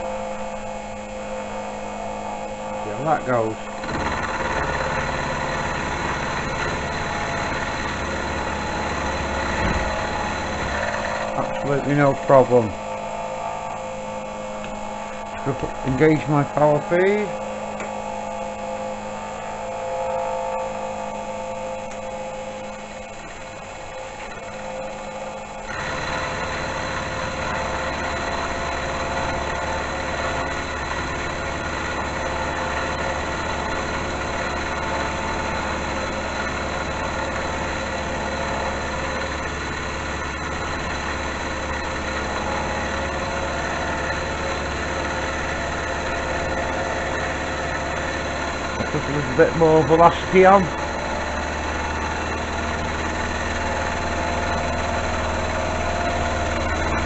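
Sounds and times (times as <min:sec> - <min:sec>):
metal lathe cutting: 0:00.0 - 0:57.0.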